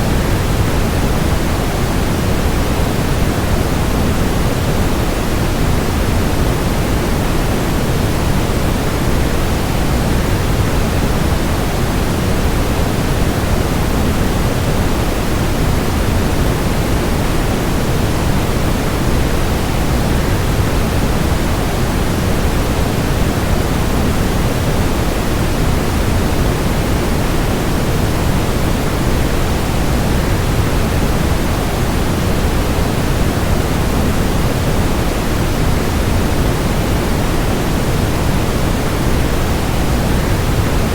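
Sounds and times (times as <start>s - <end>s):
white noise: 0.0s - 40.9s.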